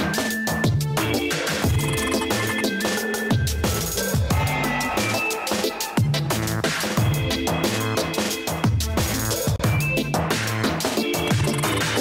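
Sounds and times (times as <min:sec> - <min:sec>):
electronic music with deep bass: 0:00.7 - 0:12.0.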